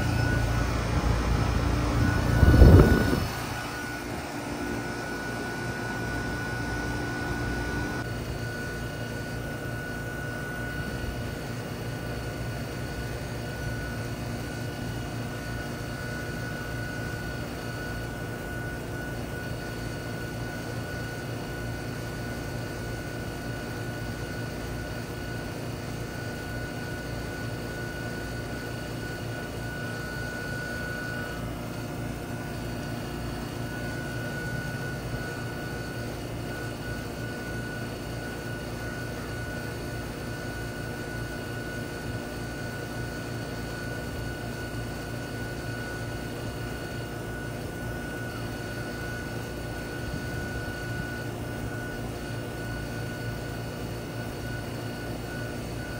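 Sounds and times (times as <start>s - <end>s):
compressor humming: 0.0s - 55.9s
condenser fan rushing: 0.0s - 55.9s
faint high whine: 0.0s - 55.9s.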